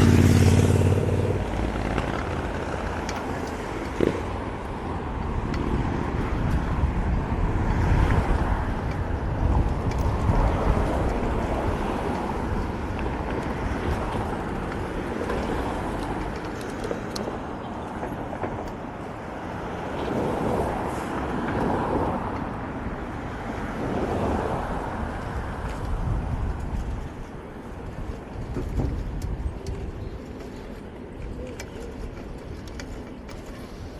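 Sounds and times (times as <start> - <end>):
city traffic noise: 0.0 - 33.9
wind rumbling on microphone: 0.0 - 33.9.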